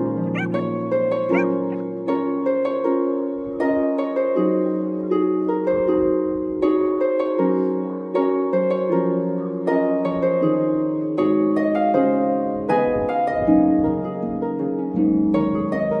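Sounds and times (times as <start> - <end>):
gentle plucked-string melody: 0.0 - 16.0.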